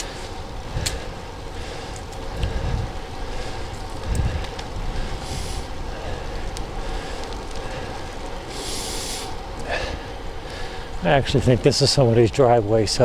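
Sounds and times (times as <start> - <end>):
bicycle tyre road noise: 0.0 - 13.0
wind buffeting microphone: 0.0 - 13.0.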